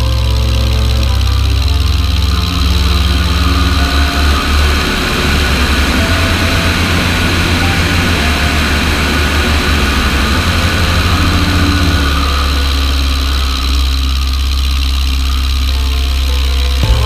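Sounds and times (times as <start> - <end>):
piston aircraft engine droning: 0.0 - 17.0.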